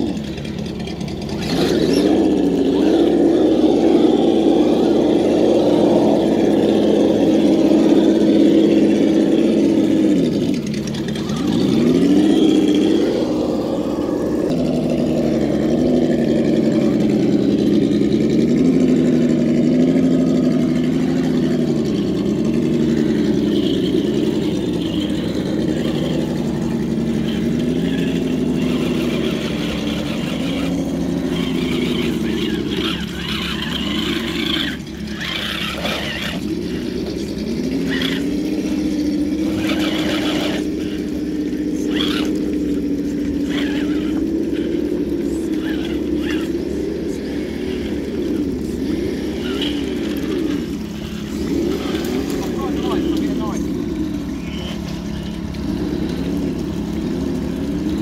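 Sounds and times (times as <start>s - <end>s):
electric motor and gearbox whine: 0.0s - 58.0s.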